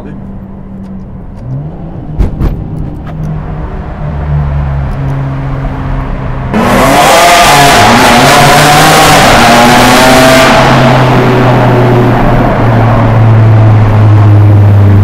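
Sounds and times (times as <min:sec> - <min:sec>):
car engine revving to a wail: 0:01.3 - 0:15.0.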